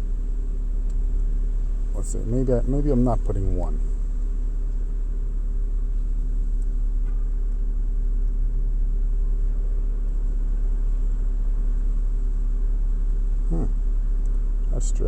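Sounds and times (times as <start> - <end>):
steady low rumble and hum: 0.0 - 15.0.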